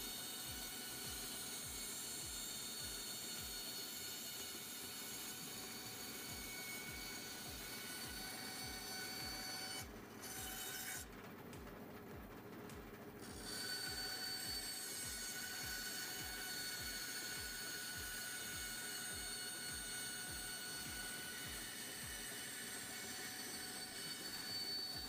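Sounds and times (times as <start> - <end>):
bandsaw cutting wood: 0.0 - 11.1, 13.2 - 25.0.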